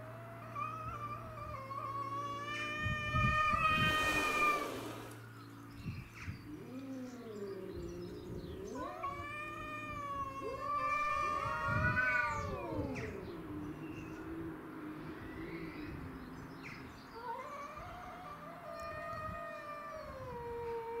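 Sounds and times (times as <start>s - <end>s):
cat caterwauling: 0.0s - 5.1s, 6.5s - 14.4s, 17.2s - 21.0s
cat howling low: 0.0s - 5.1s, 6.5s - 14.4s, 17.2s - 21.0s.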